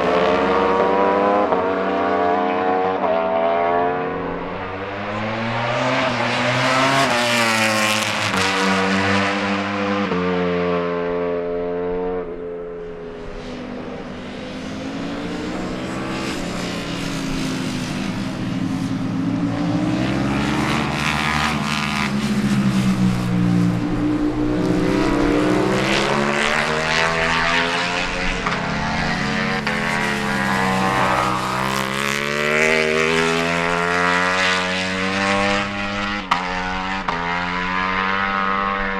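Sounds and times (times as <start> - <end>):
motorcycle engines racing: 0.0 - 38.9.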